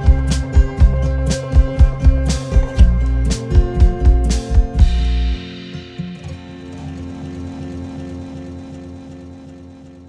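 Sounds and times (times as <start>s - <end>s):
music with low pulse: 0.0s - 10.0s.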